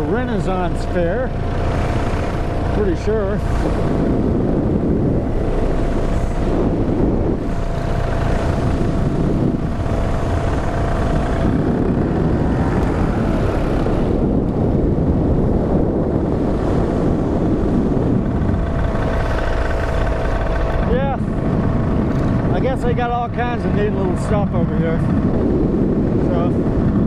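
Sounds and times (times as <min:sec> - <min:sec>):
aircraft engine and propeller drone: 0:00.0 - 0:27.0
wind buffeting microphone: 0:00.0 - 0:27.0.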